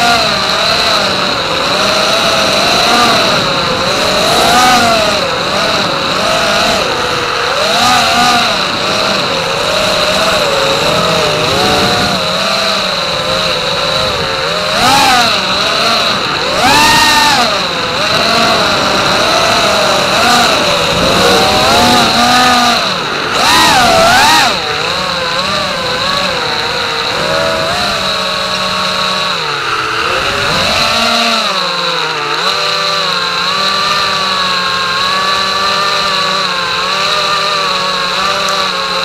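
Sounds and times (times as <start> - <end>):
quadcopter motors whining: 0.0 - 39.0.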